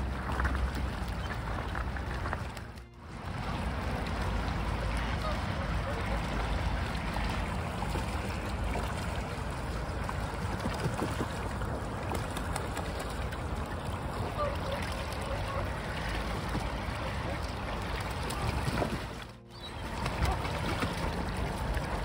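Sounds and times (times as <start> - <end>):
water splashing from bathing gulls: 0.0 - 22.0.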